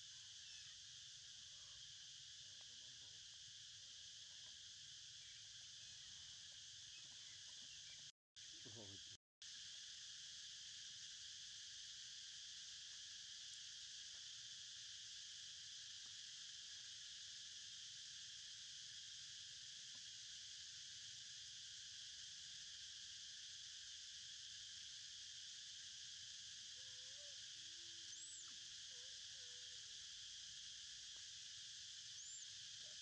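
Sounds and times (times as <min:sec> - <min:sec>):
forest insects chorus: 0:00.0 - 0:33.0.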